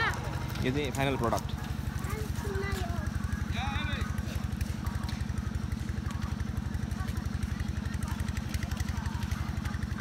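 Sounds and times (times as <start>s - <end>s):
engine running with pulsing beat: 0.0s - 10.0s.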